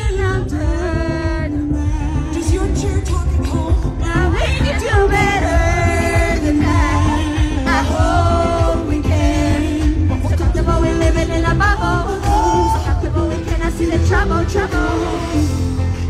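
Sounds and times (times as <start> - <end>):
woman singing: 0.0 - 15.8
pop music with heavy bass: 0.0 - 16.0.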